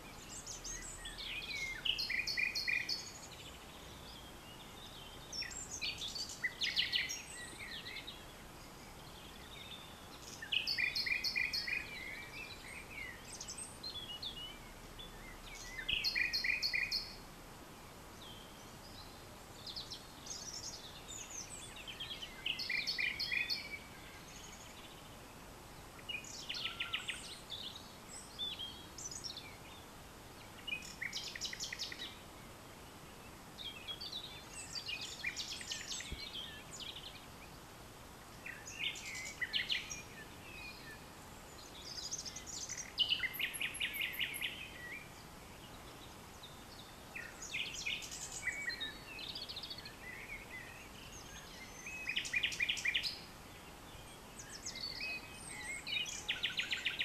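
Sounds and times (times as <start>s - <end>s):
faint outdoor hiss: 0.0s - 57.0s
nightingale singing: 0.0s - 57.0s.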